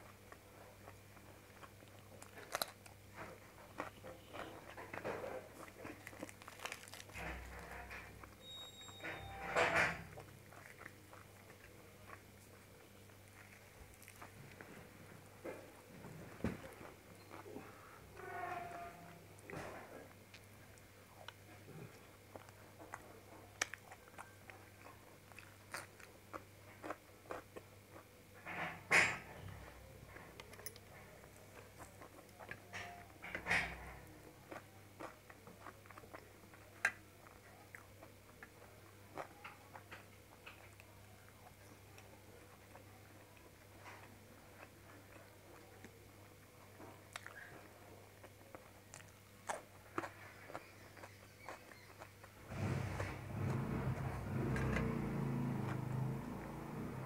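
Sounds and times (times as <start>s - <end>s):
person chewing with wet smacks: 0.0s - 8.4s, 10.1s - 15.9s, 16.6s - 17.8s, 19.4s - 28.1s, 30.1s - 32.7s, 34.1s - 52.5s, 53.1s - 57.0s
faint low hum: 0.0s - 57.0s.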